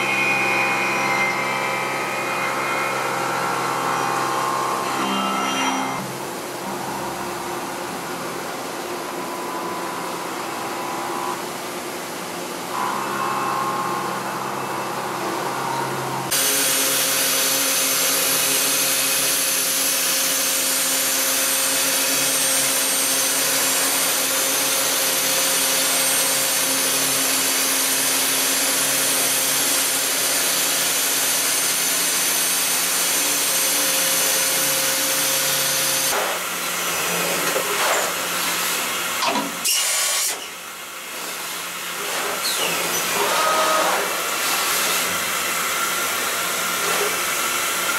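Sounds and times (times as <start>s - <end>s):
cnc machine milling metal: 0.0s - 47.9s.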